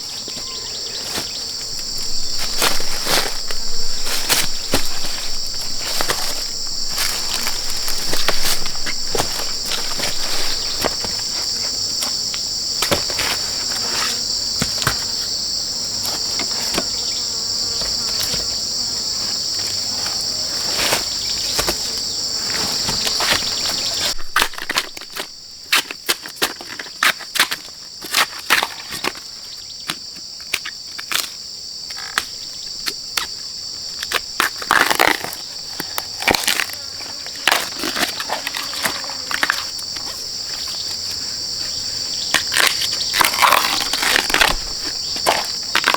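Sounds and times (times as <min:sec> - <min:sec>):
insects chorus: 0:00.0 - 0:45.9.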